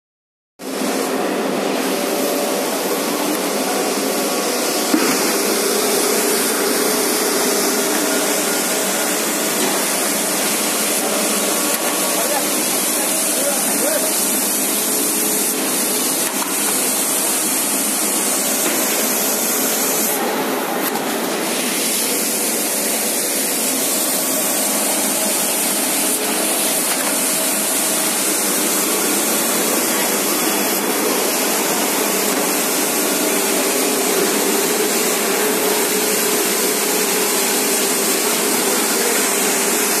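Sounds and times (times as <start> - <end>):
sanding machine hissing and humming: 0.8 - 40.0.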